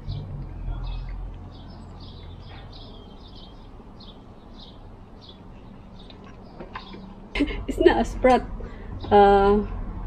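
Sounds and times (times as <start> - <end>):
songbird chirping: 0.0 - 8.4.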